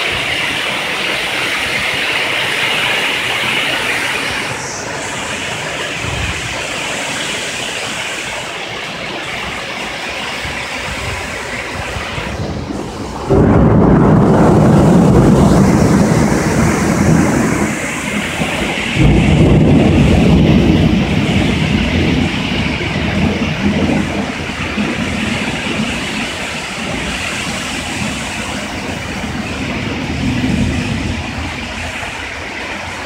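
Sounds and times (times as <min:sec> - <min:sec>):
heavy rain pouring: 0:00.0 - 0:33.0
thunder rumbling: 0:00.0 - 0:33.0.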